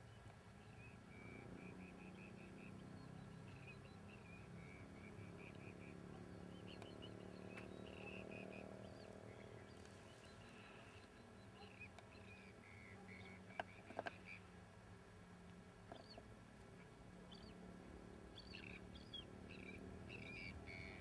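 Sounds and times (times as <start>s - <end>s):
faint bird chirps: 0.0s - 14.5s, 15.9s - 17.6s, 18.3s - 21.0s
low steady hum: 0.0s - 21.0s.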